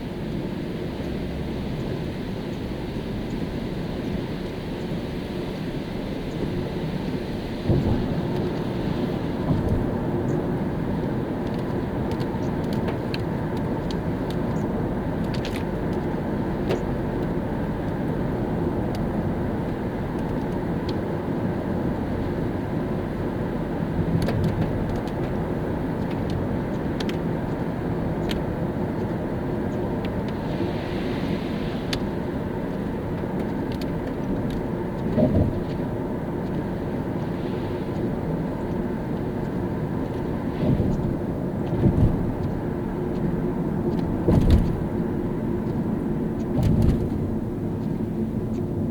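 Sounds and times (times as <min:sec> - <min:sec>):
tyres on wet road: 0:00.0 - 0:48.9.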